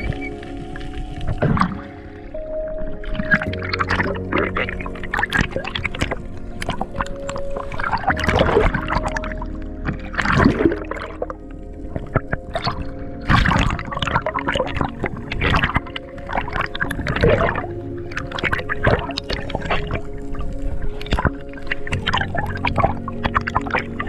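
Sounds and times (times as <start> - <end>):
water gurgling and bubbling: 0.0 - 24.0.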